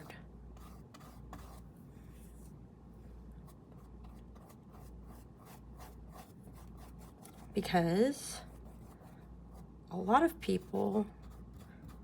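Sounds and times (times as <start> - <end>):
brush scratching on painting surface: 0.0 - 2.6, 3.4 - 12.0.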